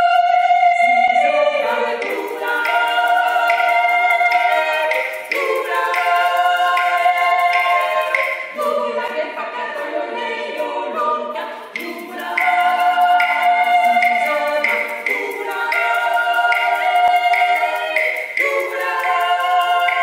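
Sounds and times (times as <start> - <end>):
women singing a cappella: 0.0 - 20.0.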